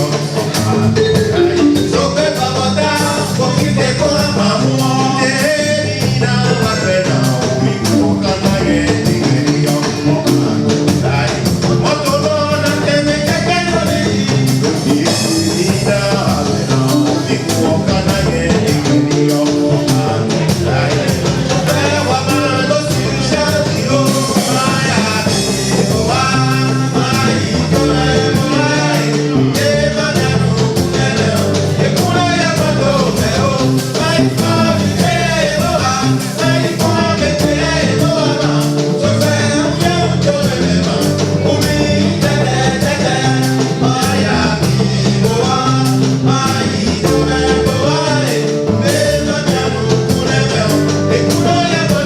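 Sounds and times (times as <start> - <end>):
band playing song: 0.0 - 52.0
person singing: 0.0 - 52.0.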